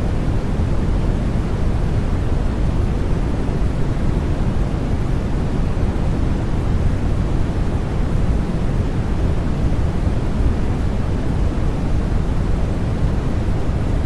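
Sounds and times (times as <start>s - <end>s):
steady white noise: 0.0s - 14.0s.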